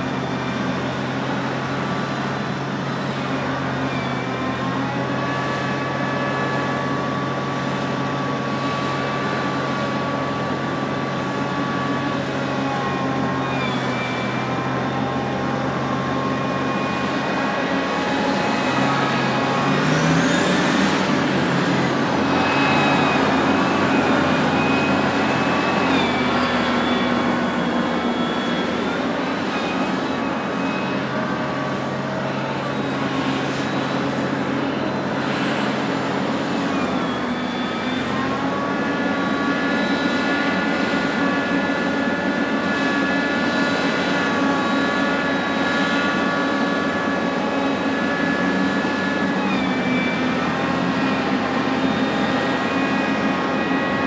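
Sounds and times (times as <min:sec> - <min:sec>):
excavator engine hum: 0:00.0 - 0:54.0.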